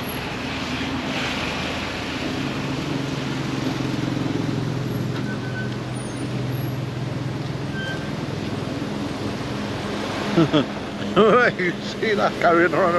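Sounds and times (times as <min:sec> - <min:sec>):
road and traffic noise: 0:00.0 - 0:12.9.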